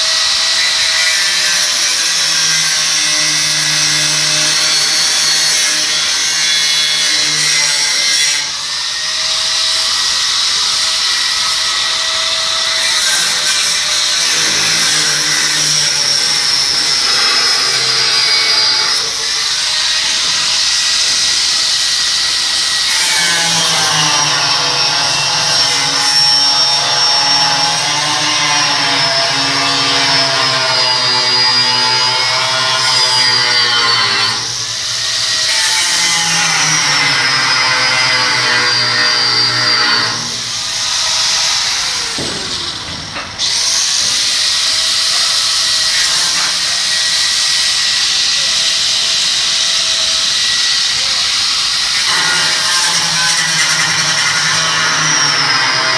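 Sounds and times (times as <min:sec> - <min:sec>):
angle grinder grinding steel: 0:00.0 - 0:55.9.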